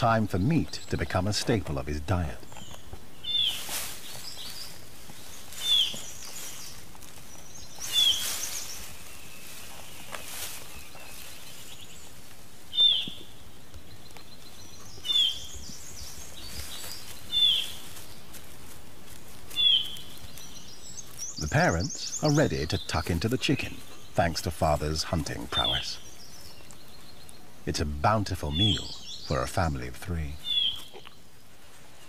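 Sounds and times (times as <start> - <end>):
forest ambience hiss: 0.0 - 32.0.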